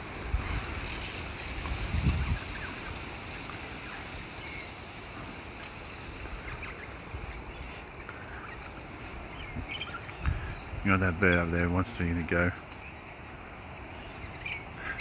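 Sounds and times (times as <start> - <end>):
low rumbling gusts: 0.0 - 15.0
wind buffeting microphone: 0.0 - 15.0.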